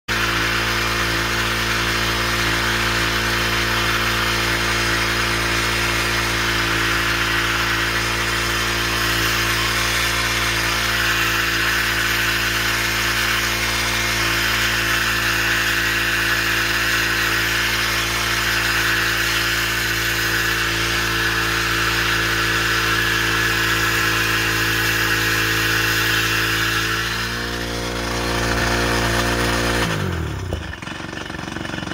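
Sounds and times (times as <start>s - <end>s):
winch engine running under load: 0.1s - 31.9s.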